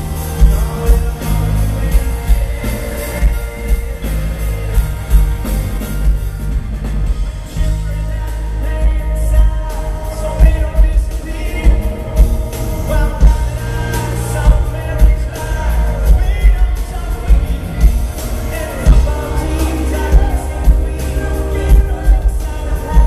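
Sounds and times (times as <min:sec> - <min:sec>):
man singing: 0:00.0 - 0:05.8, 0:07.5 - 0:23.0
live pop-rock band playing: 0:00.0 - 0:23.0.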